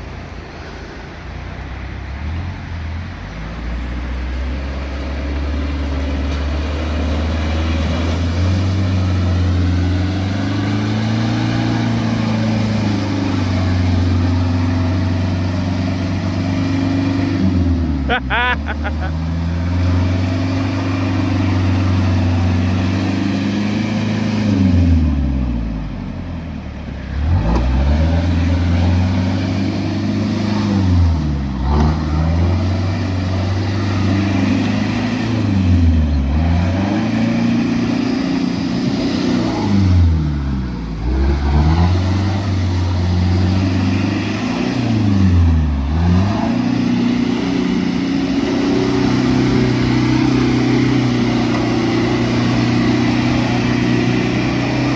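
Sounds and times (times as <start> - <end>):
vehicle engine revving: 1.6 - 54.9.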